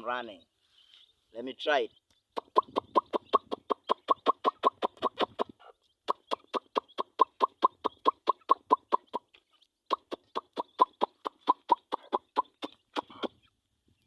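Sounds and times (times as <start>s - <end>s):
man making chicken calls: 1.9s - 13.6s.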